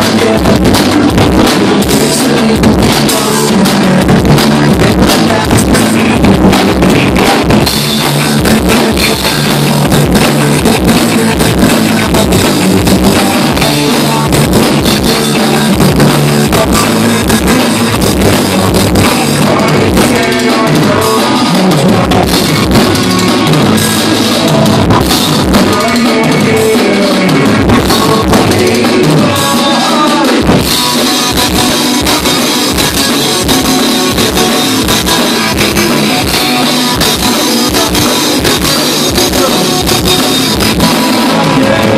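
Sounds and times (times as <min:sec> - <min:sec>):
bass: 0:00.0 - 0:41.9
drum kit: 0:00.0 - 0:41.9
electric guitar: 0:00.0 - 0:41.9.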